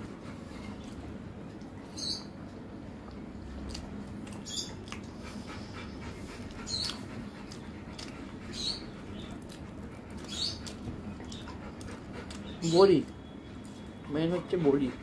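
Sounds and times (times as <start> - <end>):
dog panting softly: 0.0 - 1.8, 4.7 - 15.0.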